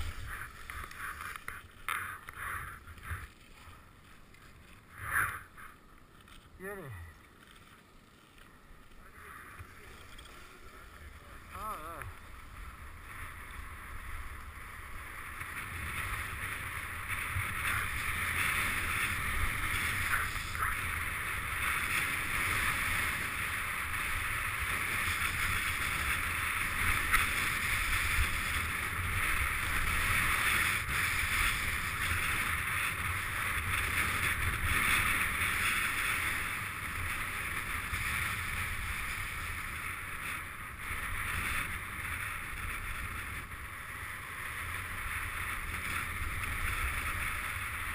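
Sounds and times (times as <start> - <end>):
skis scraping over snow: 0.0 - 47.9.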